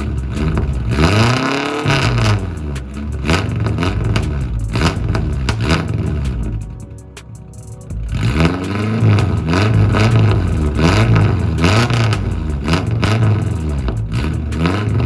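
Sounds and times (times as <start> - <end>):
car exhaust revving: 0.0 - 15.0.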